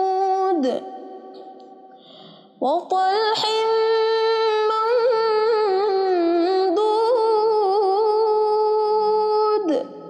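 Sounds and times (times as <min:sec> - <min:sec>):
woman reciting in melodic chant: 0:00.0 - 0:10.0.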